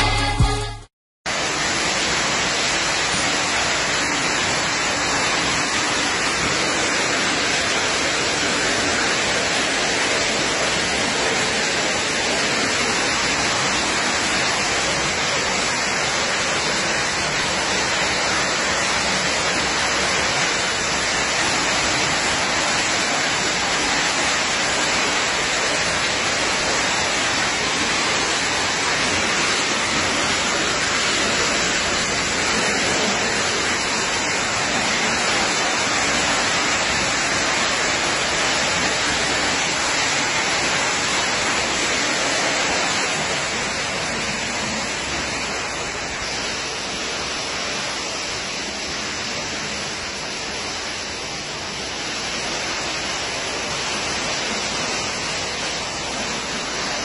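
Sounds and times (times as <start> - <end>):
rainwater pouring and splashing: 1.3 - 57.0.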